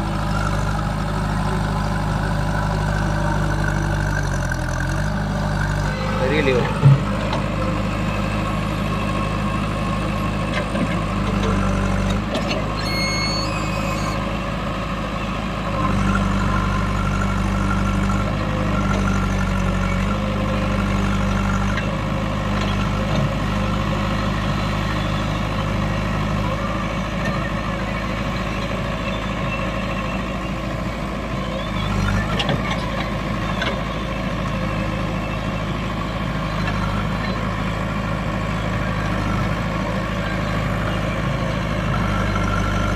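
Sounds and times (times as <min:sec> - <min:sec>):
heavy diesel engines running: 0:00.0 - 0:42.9.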